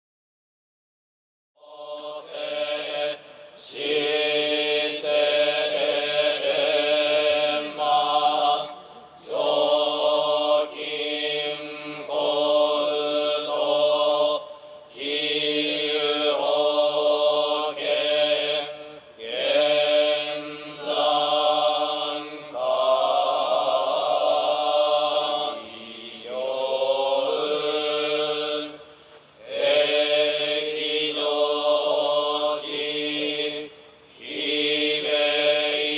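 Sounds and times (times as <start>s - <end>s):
monks chanting together: 1.6s - 35.9s.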